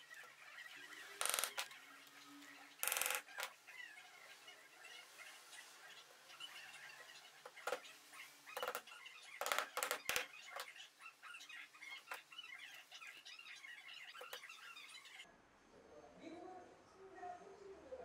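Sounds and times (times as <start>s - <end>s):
small birds chirping: 0.0s - 15.3s.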